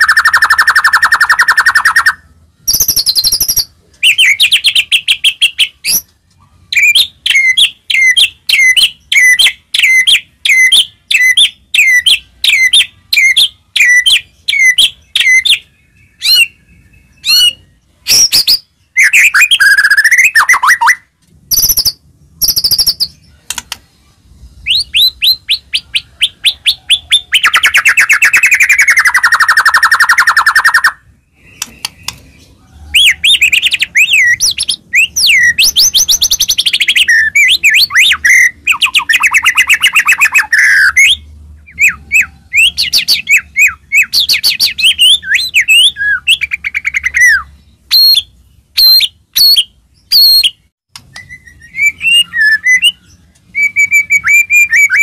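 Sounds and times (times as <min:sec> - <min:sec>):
bird singing whistled phrases: 0:00.0 - 0:06.1, 0:06.7 - 0:23.2, 0:24.6 - 0:32.2, 0:32.8 - 0:55.0.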